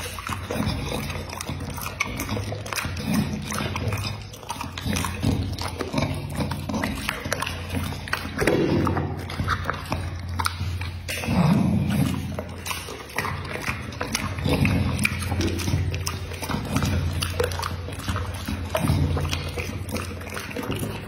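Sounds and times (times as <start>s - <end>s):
dog chewing with wet smacking: 0.0s - 21.0s
teeth clicking: 0.0s - 21.0s.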